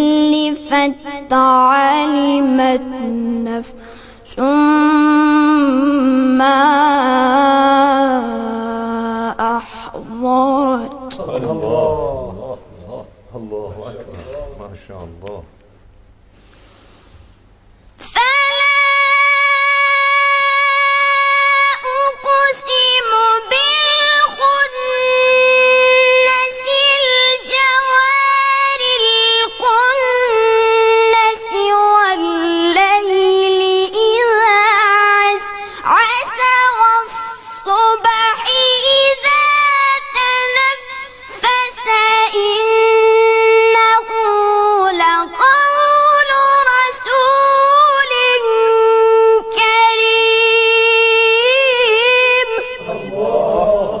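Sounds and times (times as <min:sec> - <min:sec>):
person reciting melodically: 0:00.0 - 0:15.6, 0:18.0 - 0:54.0.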